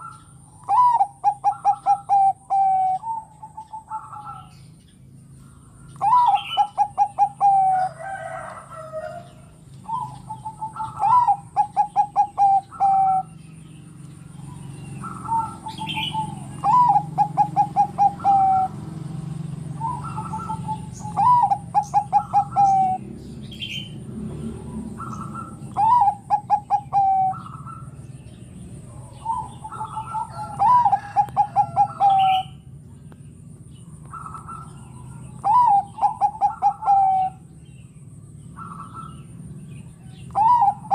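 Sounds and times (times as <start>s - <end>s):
dove cooing: 0.0s - 32.9s, 33.8s - 37.6s, 38.2s - 40.9s.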